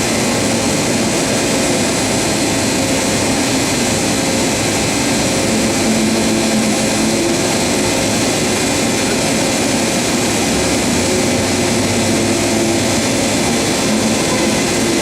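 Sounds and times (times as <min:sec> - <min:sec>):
machining center running: 0:00.0 - 0:15.0.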